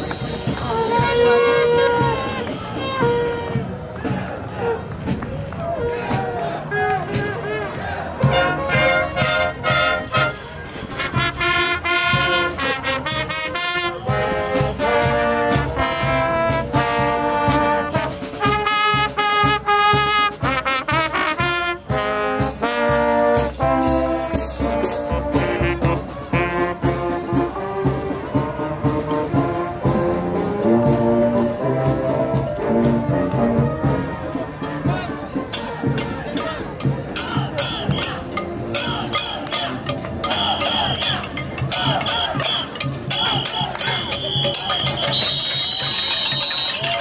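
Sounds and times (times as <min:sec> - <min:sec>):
brass band playing: 0:00.0 - 0:47.0.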